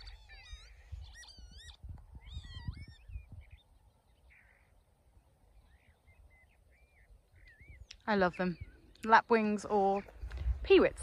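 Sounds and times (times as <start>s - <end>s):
lapwings calling: 0.0s - 9.4s.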